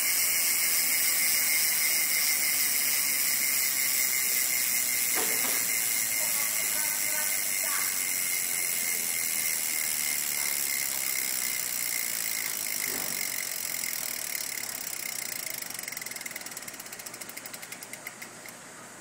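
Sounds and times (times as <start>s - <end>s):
bicycle hub freewheel clicking: 0.0s - 18.6s.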